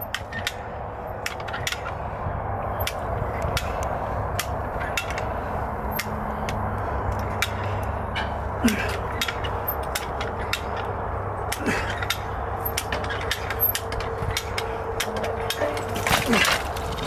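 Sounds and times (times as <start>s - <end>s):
ratchet and chain clicking: 2.7s - 17.0s.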